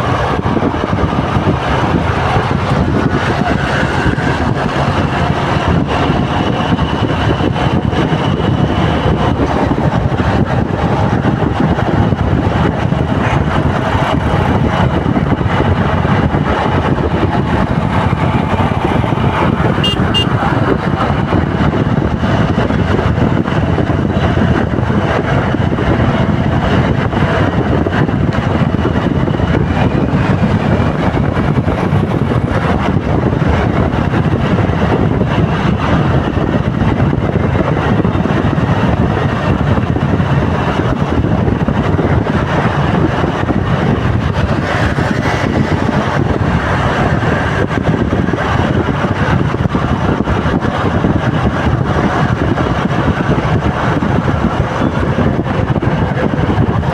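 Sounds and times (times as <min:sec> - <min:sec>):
road traffic noise: 0:00.0 - 0:56.9
wind rumbling on microphone: 0:00.0 - 0:56.9.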